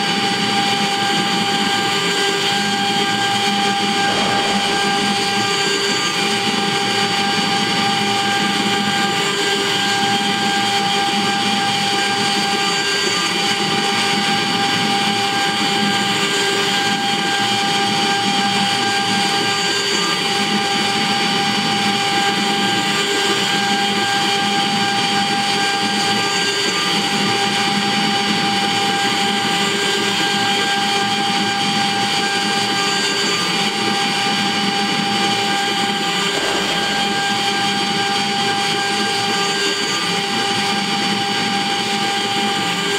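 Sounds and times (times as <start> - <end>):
wood router spindle whining: 0.0 - 42.9.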